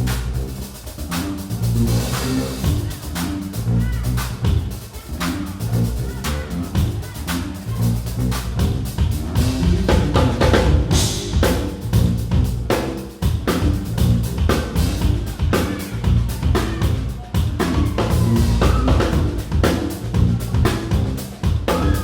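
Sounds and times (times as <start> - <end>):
bass notes: 0.0 - 22.0
live band music: 0.0 - 22.0.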